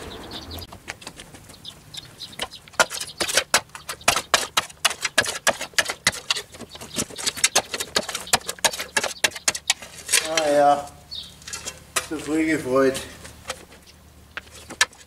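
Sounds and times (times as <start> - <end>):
rubble scraping and clicking: 0.6 - 15.0.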